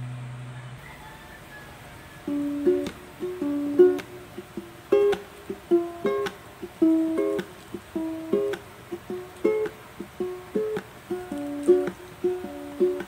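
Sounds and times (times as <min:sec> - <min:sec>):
lo-fi plucked string music: 0:02.0 - 0:13.0.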